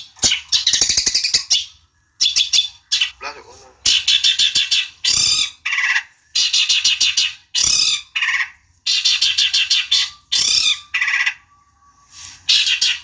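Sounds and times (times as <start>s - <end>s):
shrike chattering song: 0.0s - 11.5s.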